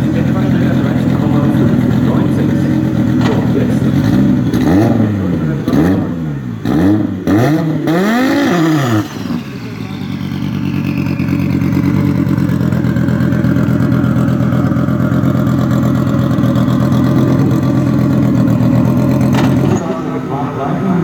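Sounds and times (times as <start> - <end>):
drag race engine revving: 0.0 - 21.0
faint engine whine: 0.0 - 21.0.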